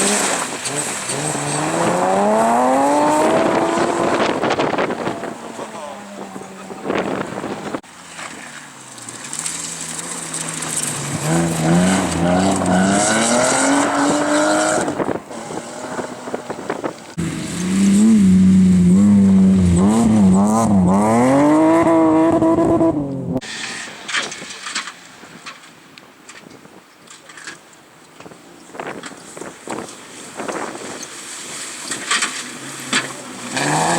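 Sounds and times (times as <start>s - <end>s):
rally car engine at full throttle: 0.0s - 25.6s, 29.0s - 33.9s.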